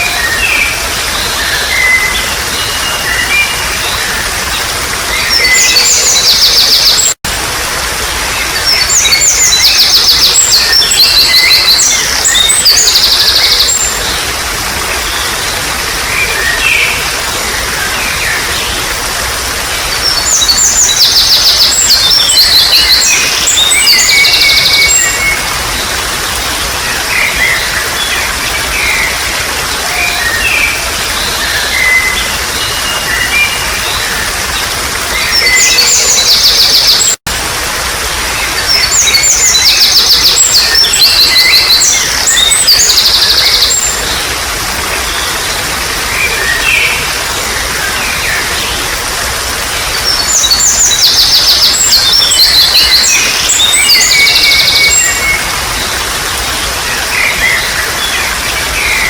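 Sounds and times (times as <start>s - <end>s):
birds singing: 0.0s - 7.2s, 7.9s - 37.2s, 37.8s - 59.0s
water trickling: 0.0s - 59.0s.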